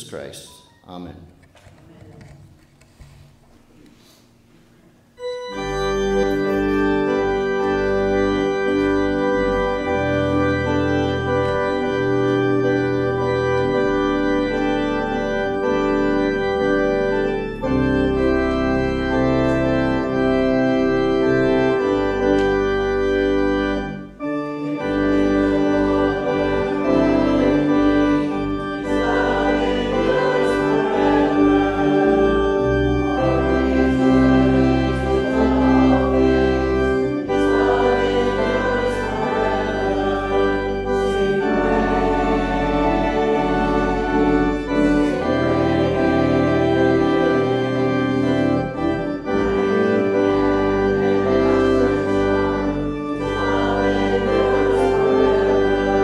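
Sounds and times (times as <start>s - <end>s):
organ playing a hymn: 2.8s - 56.0s.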